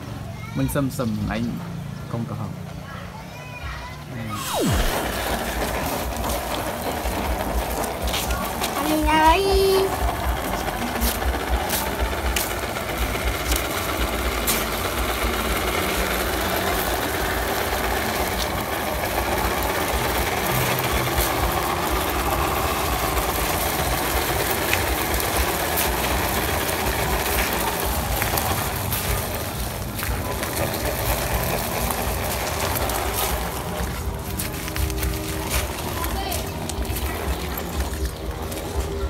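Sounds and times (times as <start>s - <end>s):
electric motor and gears whirring: 4.1s - 39.0s.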